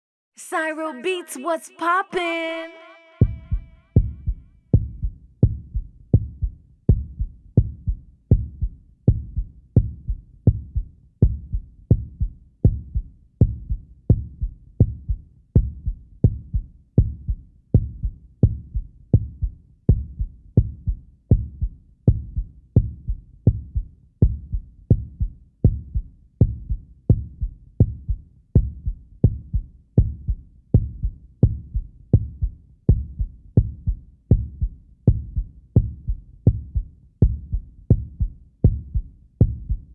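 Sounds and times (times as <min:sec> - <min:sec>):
heartbeat thuds: 0:03.2 - 0:39.9.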